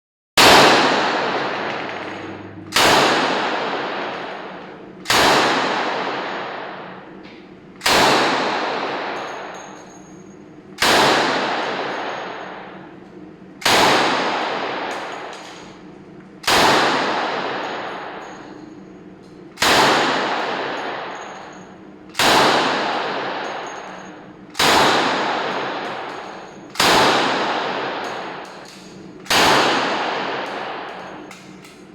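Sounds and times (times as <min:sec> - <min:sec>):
submachine gun single shots: 0:00.4 - 0:07.0, 0:07.8 - 0:09.8, 0:10.8 - 0:12.7, 0:13.6 - 0:15.8, 0:16.4 - 0:18.6, 0:19.6 - 0:31.3.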